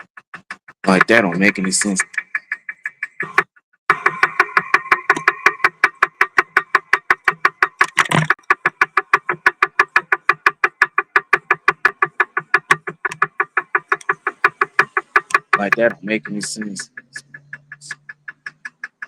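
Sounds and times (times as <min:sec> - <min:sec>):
music with chopped pulse: 0:00.0 - 0:19.0.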